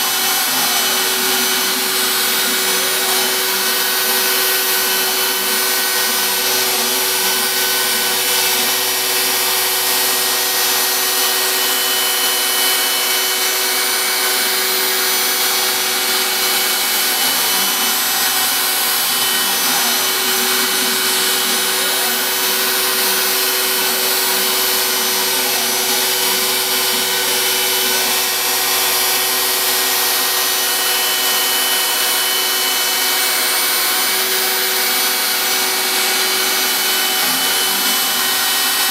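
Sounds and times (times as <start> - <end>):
axis motors whirring: 0.0 - 38.9
router spindle whine and hiss: 0.0 - 38.9.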